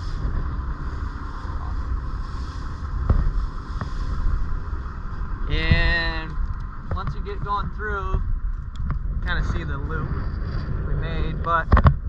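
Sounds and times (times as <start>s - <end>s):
low rumble: 0.0s - 12.0s
wind buffeting microphone: 0.0s - 12.0s.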